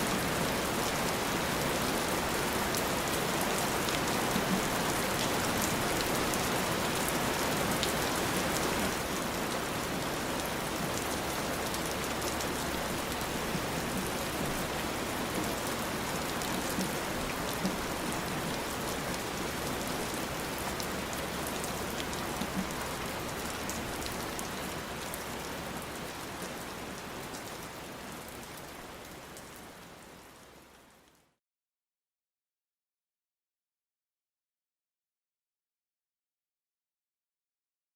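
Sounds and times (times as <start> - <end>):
steady rain falling: 0.0 - 31.4.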